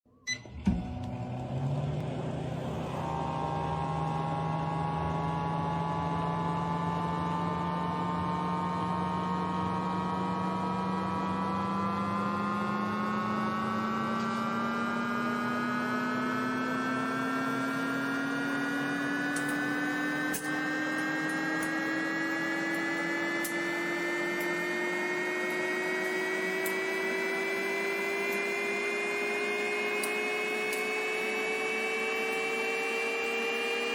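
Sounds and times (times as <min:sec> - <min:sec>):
microwave oven hum: 0:00.1 - 0:33.9.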